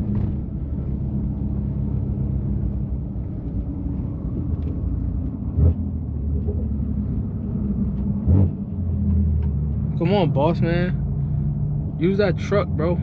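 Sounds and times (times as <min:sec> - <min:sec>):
car engine droning at low rpm: 0:00.0 - 0:13.0
road and tyre noise: 0:00.0 - 0:13.0.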